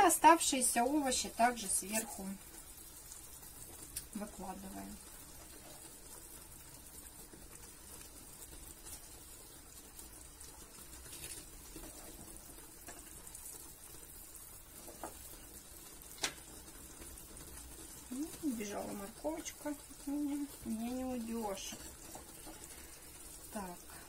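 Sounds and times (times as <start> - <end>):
pot of brine hissing: 0.0 - 24.0.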